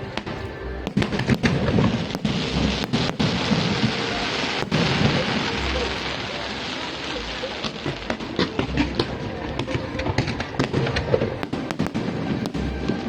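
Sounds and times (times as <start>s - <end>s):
fireworks crackling hiss: 0.0s - 13.0s
sharp fireworks bangs: 0.0s - 13.0s.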